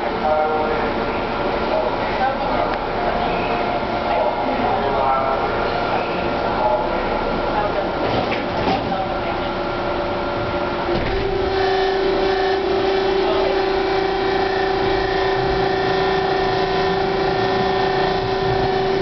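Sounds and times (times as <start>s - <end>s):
subway car electric whine: 0.0s - 19.0s
subway car rumble: 0.0s - 19.0s.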